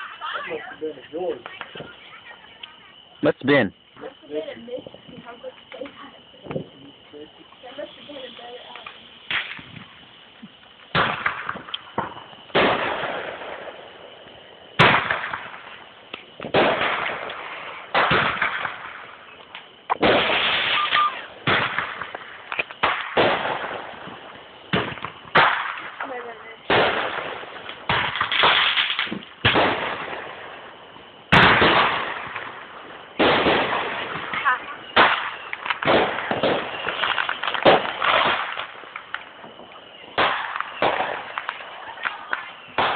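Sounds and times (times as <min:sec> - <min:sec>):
fireworks bursting: 0:00.0 - 0:42.9
fireworks crackling: 0:00.0 - 0:42.9.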